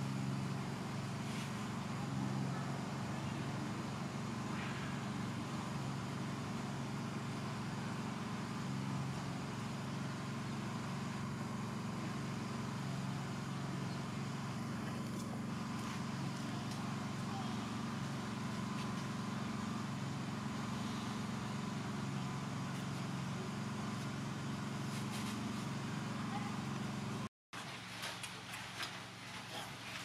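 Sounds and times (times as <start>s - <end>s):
motor humming: 0.0s - 27.3s.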